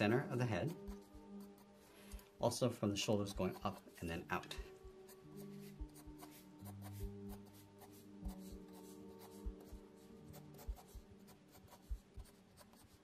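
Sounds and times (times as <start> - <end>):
pencil scratching on paper: 0.0 - 2.0, 3.1 - 13.0
background music of low notes: 0.0 - 13.0.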